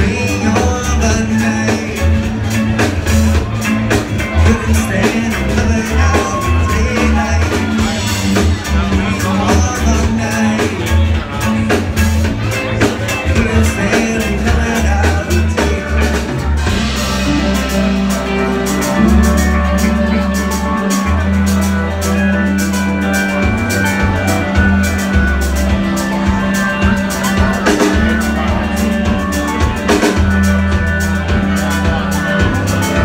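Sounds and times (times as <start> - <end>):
drums: 0.0 - 33.0
electric guitars: 0.0 - 33.0
held low bass notes: 0.0 - 33.0.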